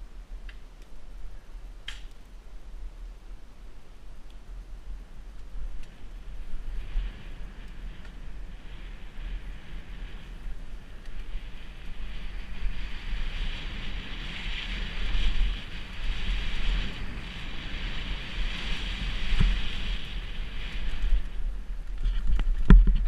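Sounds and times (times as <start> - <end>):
bike tyres rolling on dirt: 0.0 - 23.0
wind on microphone: 4.4 - 23.0.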